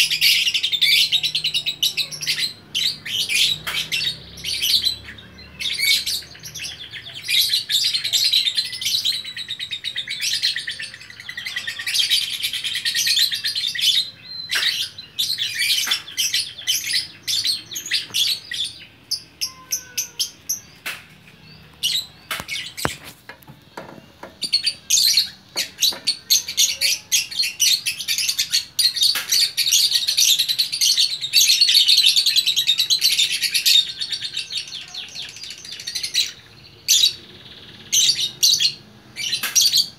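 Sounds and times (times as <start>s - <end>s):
lovebirds chattering shrilly: 0.0s - 39.9s.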